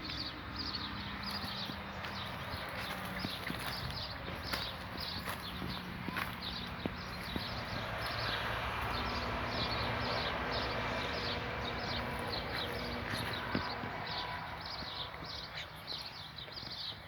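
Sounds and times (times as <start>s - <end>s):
outdoor rustle: 0.0s - 17.0s.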